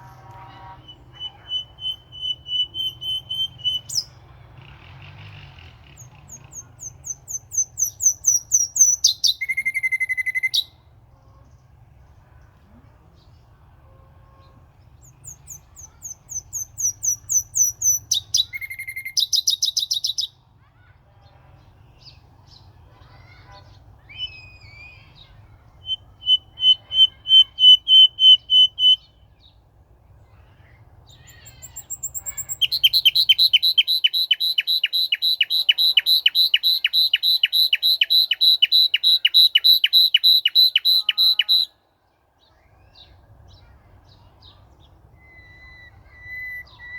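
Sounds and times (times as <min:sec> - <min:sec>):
songbird singing: 0:00.0 - 0:20.6, 0:21.2 - 0:46.9.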